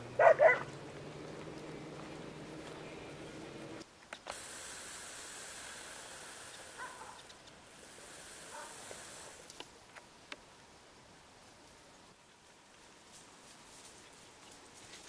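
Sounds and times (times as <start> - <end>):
steady high hiss: 1.0 - 14.8.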